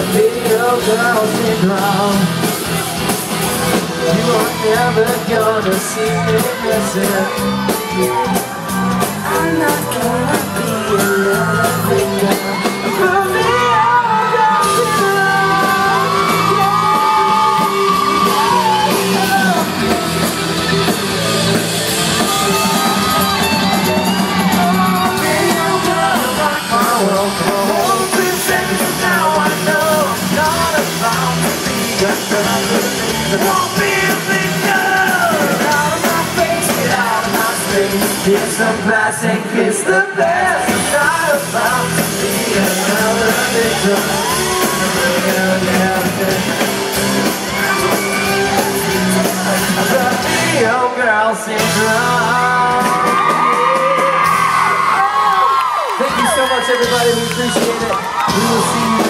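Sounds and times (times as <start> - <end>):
man singing lead vocal: 0.0 - 23.4, 24.4 - 59.0
crowd yelling and screaming: 0.0 - 59.0
live pop-rock band: 0.0 - 59.0.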